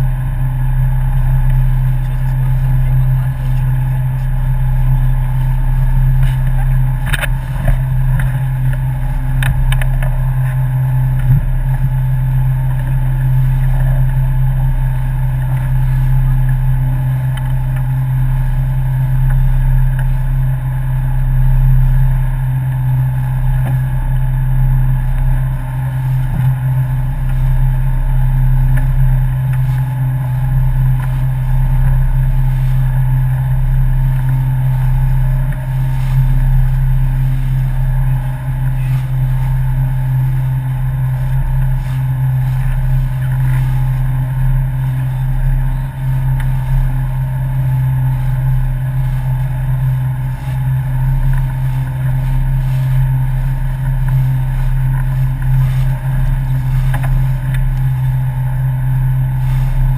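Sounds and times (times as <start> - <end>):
boat engine humming: 0.0 - 59.9.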